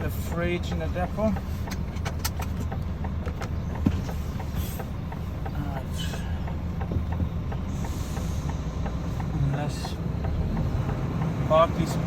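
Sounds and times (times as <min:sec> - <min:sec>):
truck diesel engine rumbling: 0:00.0 - 0:12.0
light clicks and rattles: 0:00.2 - 0:10.4.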